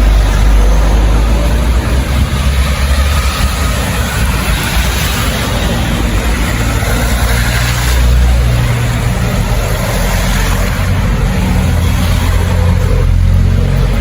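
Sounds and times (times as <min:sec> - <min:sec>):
constant rushing noise: 0:00.0 - 0:14.0
vehicle engine rumbling: 0:00.0 - 0:14.0.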